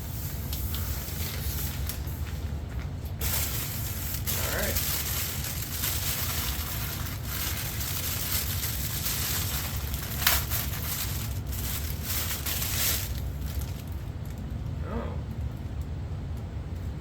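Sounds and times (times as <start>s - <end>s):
packaging crinkling and rustling: 0.3s - 14.6s.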